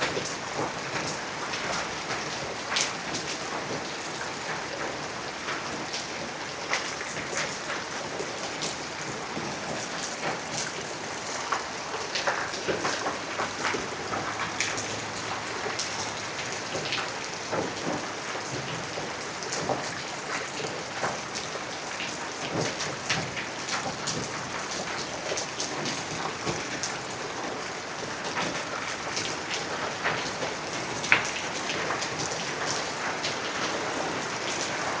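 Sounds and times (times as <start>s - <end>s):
heavy rain on rocks: 0.0s - 35.0s.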